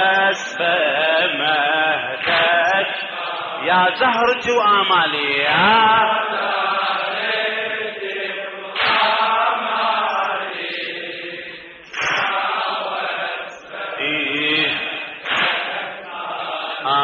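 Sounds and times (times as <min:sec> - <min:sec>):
voices chanting together: 0:00.0 - 0:17.0.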